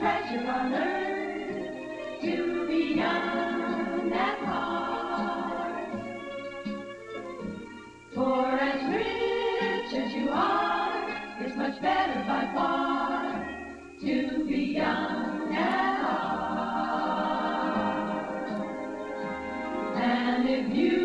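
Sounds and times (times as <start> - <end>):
women singing together: 0.0 - 6.2, 8.1 - 19.2, 19.8 - 21.0.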